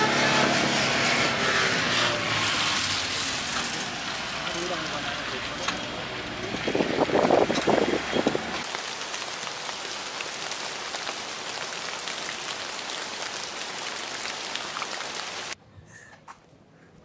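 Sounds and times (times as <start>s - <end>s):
rain on canvas canopy: 0.0s - 15.6s.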